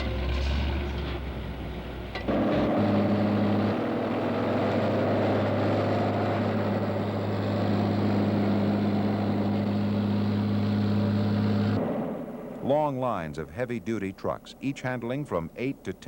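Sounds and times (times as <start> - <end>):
construction machinery running: 0.0 - 16.0.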